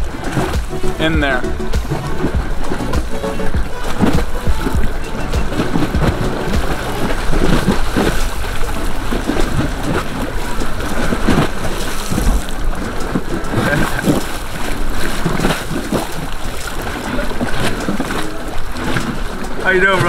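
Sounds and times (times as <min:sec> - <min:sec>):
water washing against pier: 0:00.0 - 0:20.0
wind buffeting microphone: 0:00.0 - 0:20.0.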